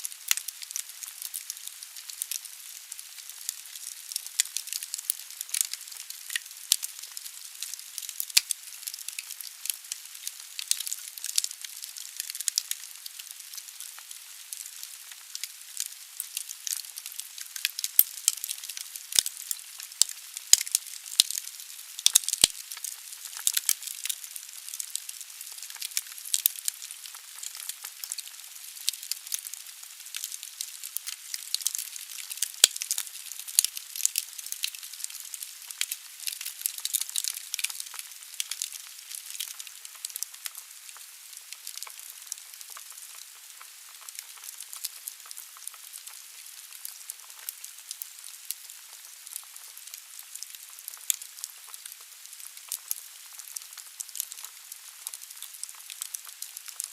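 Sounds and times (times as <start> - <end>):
burning wood crackling and popping: 0.0 - 56.9.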